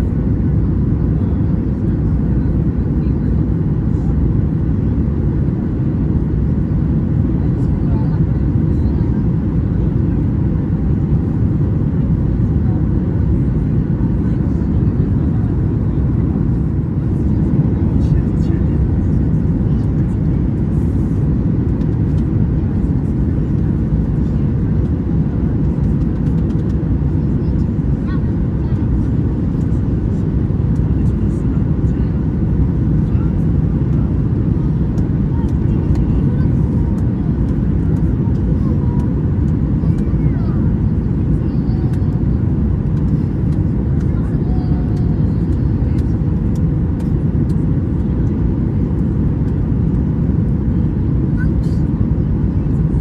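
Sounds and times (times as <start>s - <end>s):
aircraft engines rumbling: 0.0s - 53.0s.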